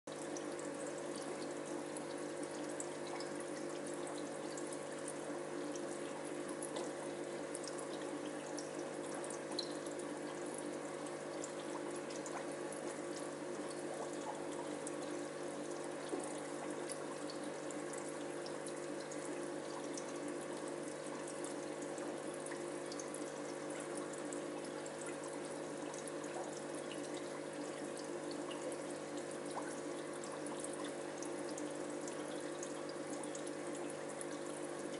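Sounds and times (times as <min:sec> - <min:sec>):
aquarium filter water flow: 0:00.1 - 0:34.9.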